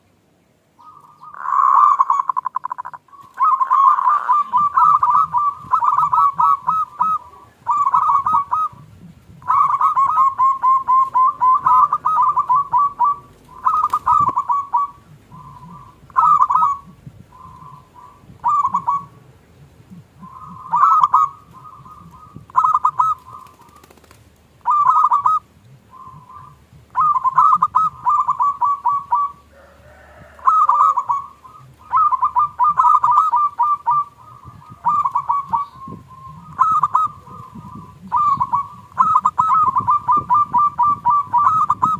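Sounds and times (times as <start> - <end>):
dove cooing: 0.8 - 41.9.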